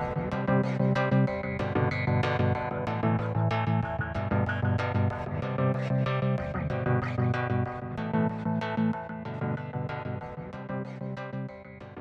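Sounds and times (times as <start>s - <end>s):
music with plucked notes: 0.0s - 12.0s.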